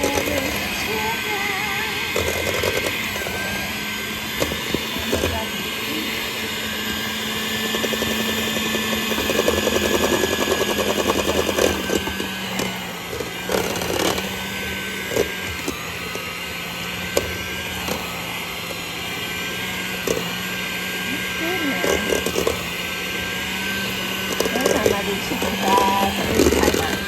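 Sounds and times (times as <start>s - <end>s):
electric mixer motor hum: 0.0s - 27.0s.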